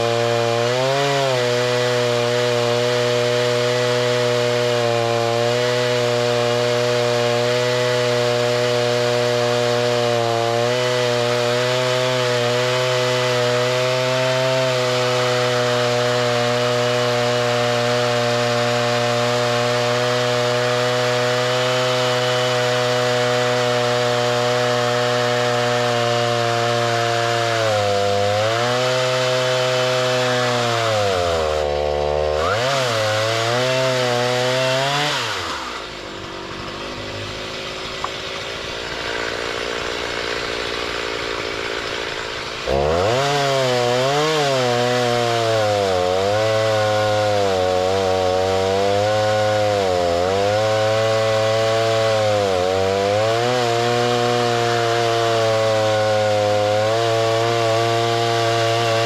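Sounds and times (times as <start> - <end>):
petrol saw cutting wood: 0.0 - 59.0.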